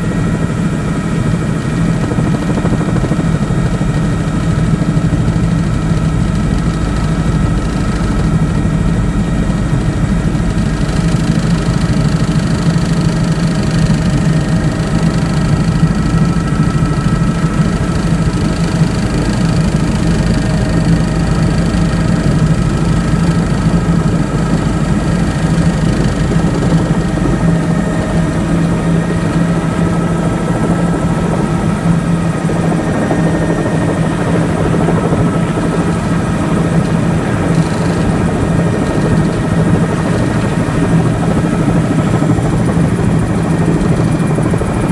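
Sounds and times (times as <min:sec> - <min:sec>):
helicopter engine and rotor drone: 0:00.0 - 0:44.9.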